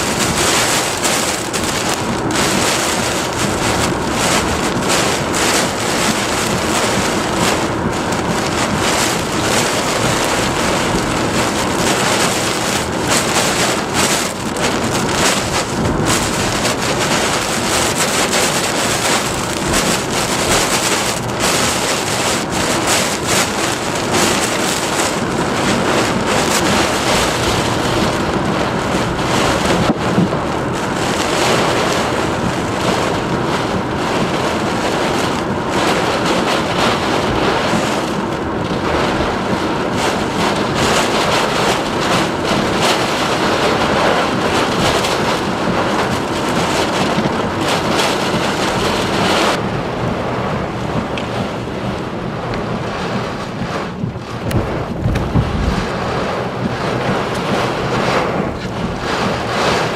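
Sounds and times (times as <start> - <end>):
driving rain: 0.0 - 59.9
hurricane wind: 0.0 - 59.9.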